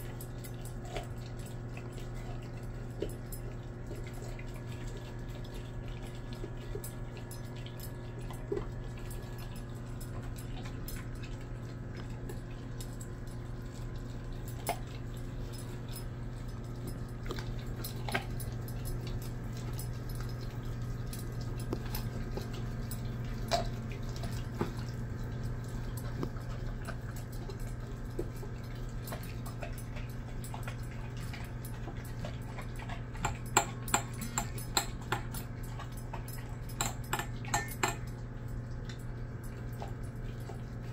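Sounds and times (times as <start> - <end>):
clinks on a metal bowl: 0.0 - 40.9
dog chewing a bone: 0.0 - 40.9.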